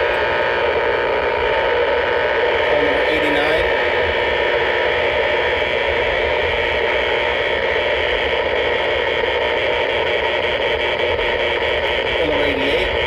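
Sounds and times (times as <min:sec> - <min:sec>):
harsh buzzing radio static: 0:00.0 - 0:13.0.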